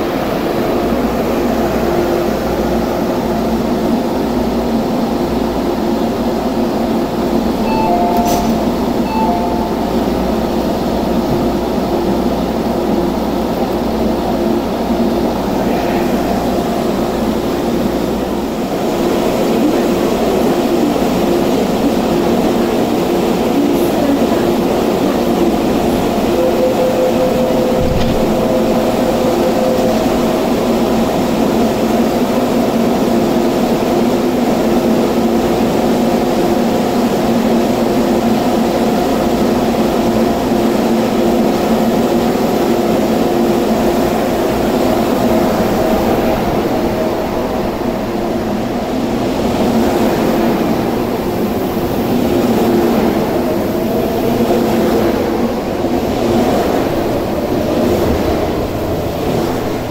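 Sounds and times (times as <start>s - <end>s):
train equipment humming: 0.0s - 59.9s
train pulling away: 0.0s - 59.9s.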